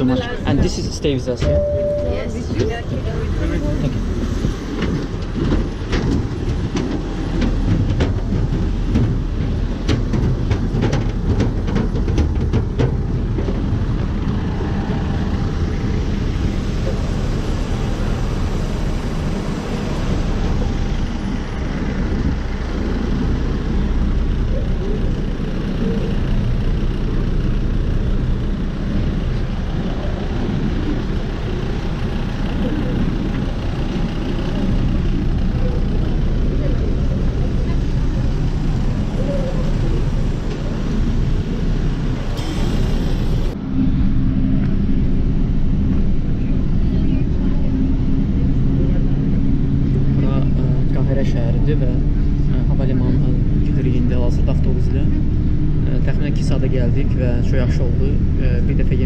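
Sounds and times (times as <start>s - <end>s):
jet aircraft and vehicles rumble: 0.0s - 59.0s.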